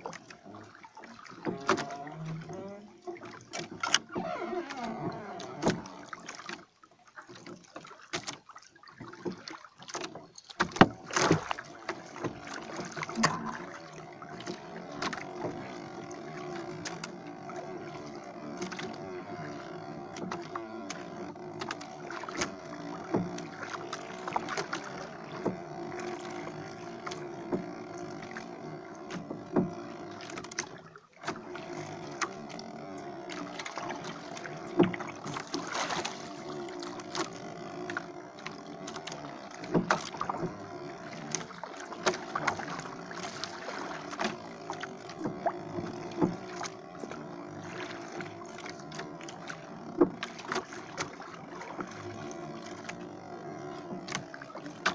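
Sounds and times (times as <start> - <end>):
knocks and taps from boat: 0.0 - 54.9
water sloshing against hull: 0.0 - 54.9.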